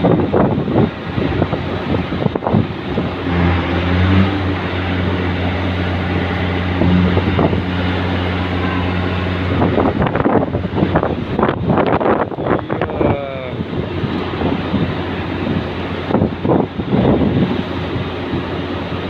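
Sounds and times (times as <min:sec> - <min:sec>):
wind buffeting microphone: 0:00.0 - 0:19.0
ship's horn blast: 0:01.0 - 0:19.0.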